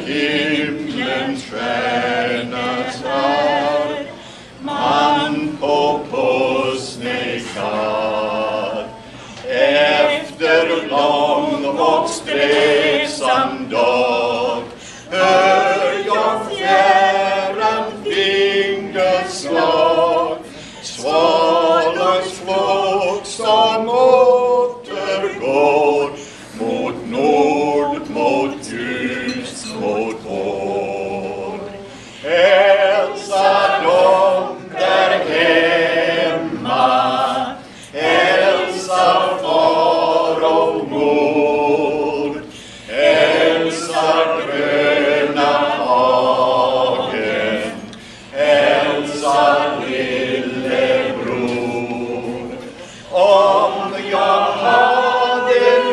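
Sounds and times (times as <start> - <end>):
group singing a cappella: 0.0 - 55.9.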